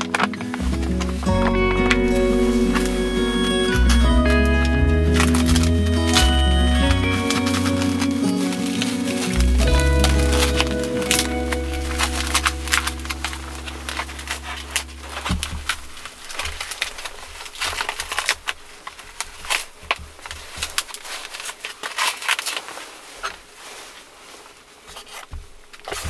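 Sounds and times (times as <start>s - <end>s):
plastic cling film crinkling: 0.0s - 26.0s.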